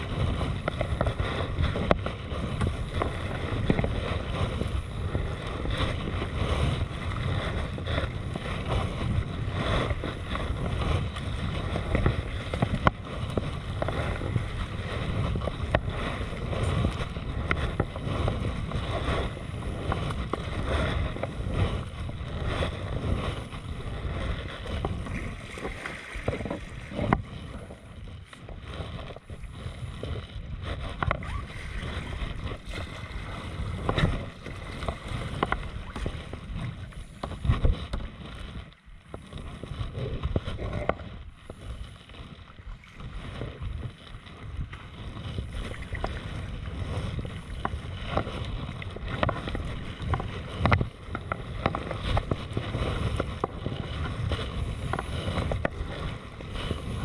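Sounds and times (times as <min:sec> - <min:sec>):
paddle splashes: 0:00.0 - 0:57.0
water splashing against kayak hull: 0:00.0 - 0:57.0.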